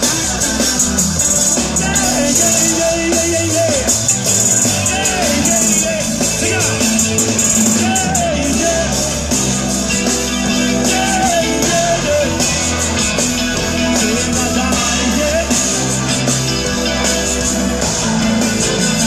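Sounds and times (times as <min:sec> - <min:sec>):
live band playing loud music: 0:00.0 - 0:19.0.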